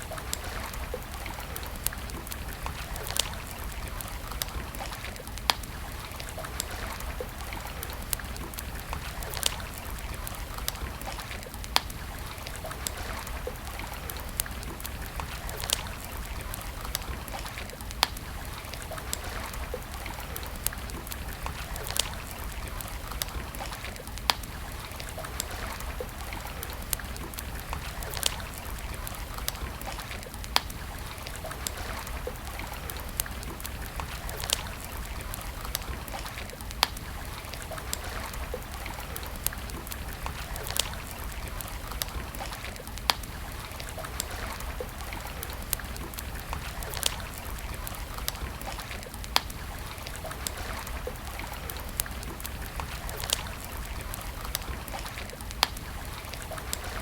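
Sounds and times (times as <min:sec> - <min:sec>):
campfire crackling and popping: 0:00.0 - 0:57.0
flowing water: 0:00.0 - 0:57.0.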